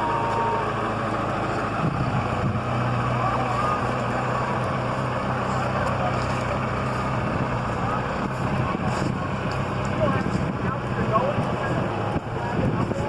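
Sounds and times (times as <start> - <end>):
low engine hum: 0.0 - 13.0
road and wind noise: 0.0 - 13.0.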